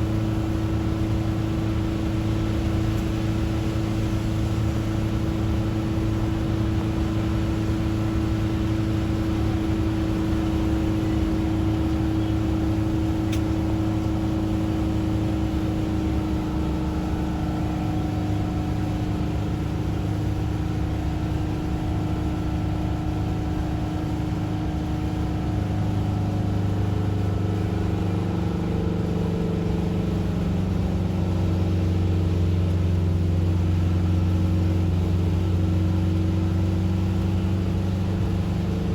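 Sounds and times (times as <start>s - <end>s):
car engine and road drone: 0.0s - 38.9s.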